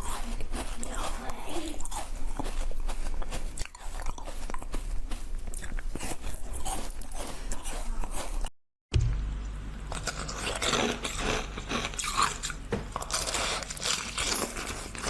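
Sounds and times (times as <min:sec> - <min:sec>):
crunchy chewing: 0:00.0 - 0:08.5, 0:09.9 - 0:15.0.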